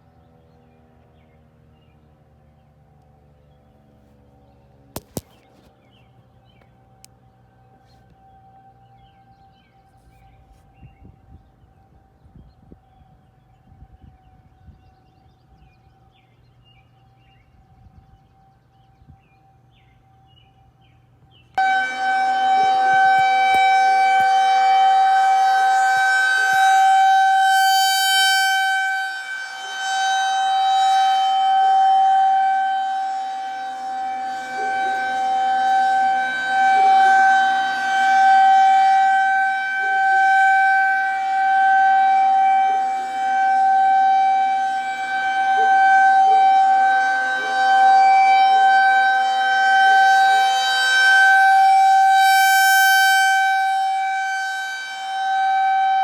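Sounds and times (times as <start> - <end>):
tornado warning siren: 0.0 - 56.0.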